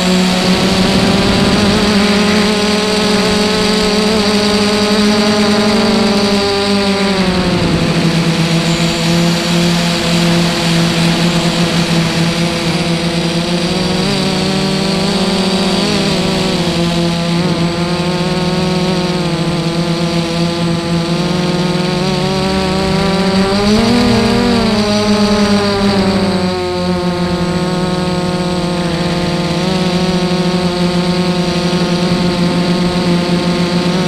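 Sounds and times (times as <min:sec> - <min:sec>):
drone motors buzzing: 0:00.0 - 0:34.0.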